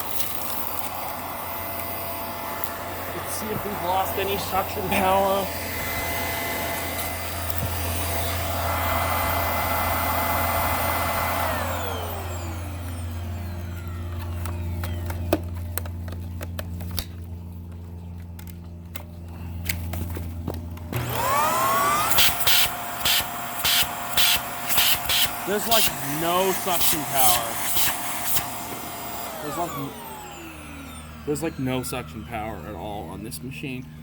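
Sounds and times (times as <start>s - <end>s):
vacuum cleaner motor whining: 0.0s - 34.0s.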